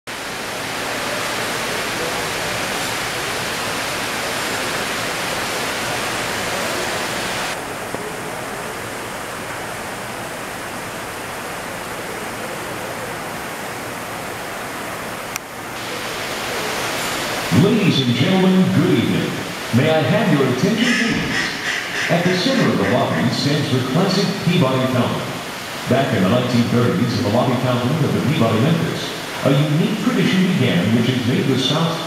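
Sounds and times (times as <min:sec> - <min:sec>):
fountain water splashing: 0:00.1 - 0:32.0.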